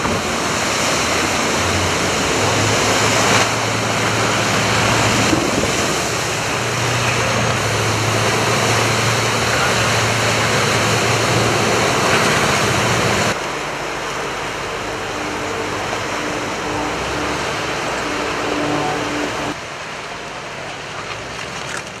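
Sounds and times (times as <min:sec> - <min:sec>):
rushing churning water: 0:00.0 - 0:22.0
water pouring off slipway: 0:00.0 - 0:22.0.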